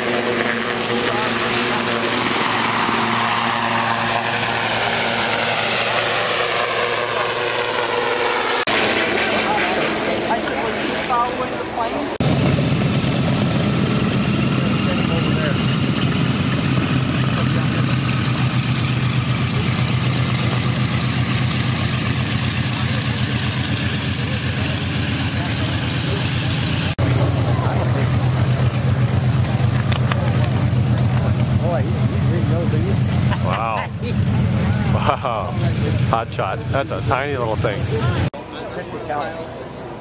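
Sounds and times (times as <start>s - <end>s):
aircraft engine drone: 0.0s - 40.0s.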